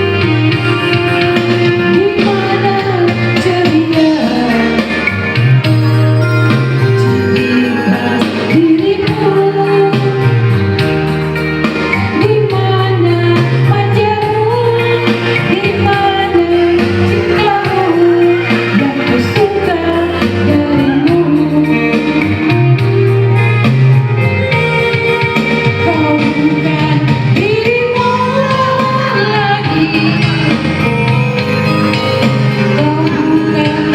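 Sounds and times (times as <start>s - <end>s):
person singing: 0.0s - 11.0s, 12.1s - 23.4s, 24.6s - 33.9s
backing music with bass line: 0.0s - 33.9s.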